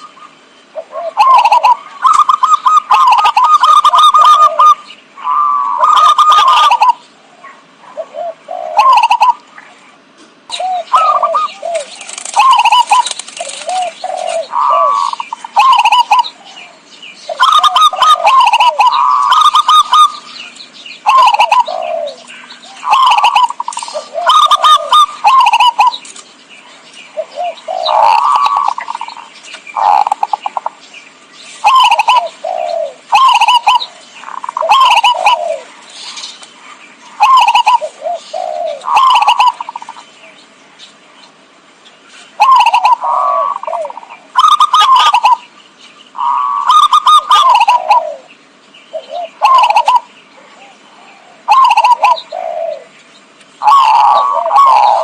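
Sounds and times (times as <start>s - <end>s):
bird chirping notes: 0.0s - 55.0s
doves cooing: 0.0s - 55.0s.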